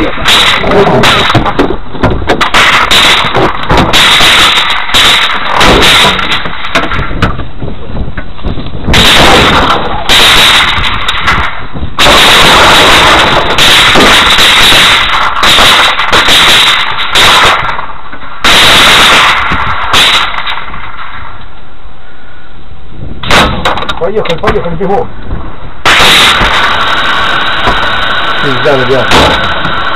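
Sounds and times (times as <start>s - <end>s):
heavy gunfire: 0.0s - 7.4s, 8.9s - 21.3s, 23.2s - 24.6s, 25.8s - 29.9s.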